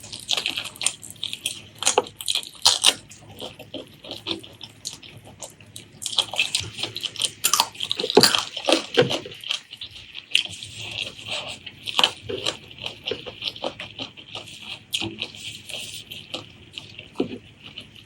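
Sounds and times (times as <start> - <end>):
wet chewing and lip-smacking: 0.0 - 18.0.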